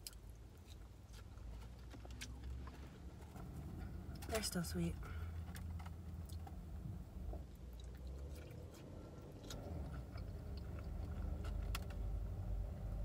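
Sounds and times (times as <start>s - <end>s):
person chewing food: 0.0s - 4.3s, 5.2s - 12.3s
low rumble of passing traffic: 0.0s - 13.0s.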